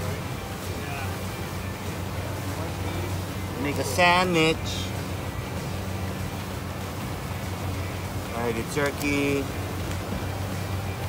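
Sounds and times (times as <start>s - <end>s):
boat engine humming: 0.0s - 11.0s
even hiss: 0.0s - 11.0s.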